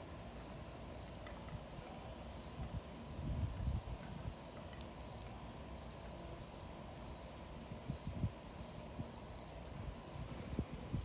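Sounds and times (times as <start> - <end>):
crickets chirping: 0.0 - 11.0
burning wood popping: 0.5 - 11.0.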